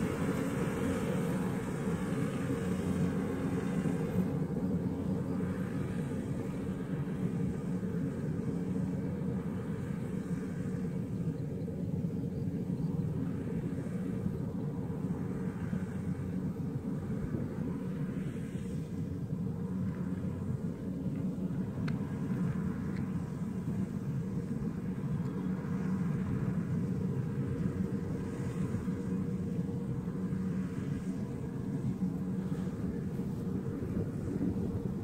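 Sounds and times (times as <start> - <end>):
combine harvester engine droning: 0.0 - 35.0.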